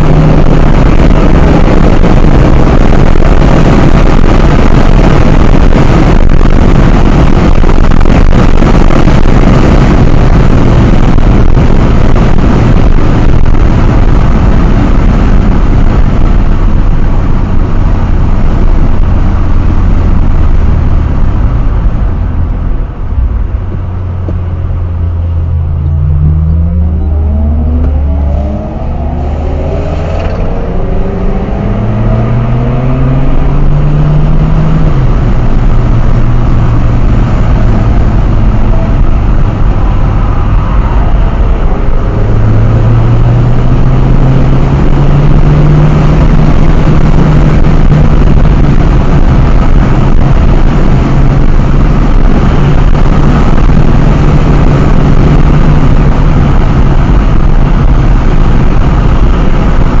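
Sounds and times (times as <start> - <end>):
car engine revving: 0.0 - 60.0
tyre and wind noise: 0.0 - 60.0.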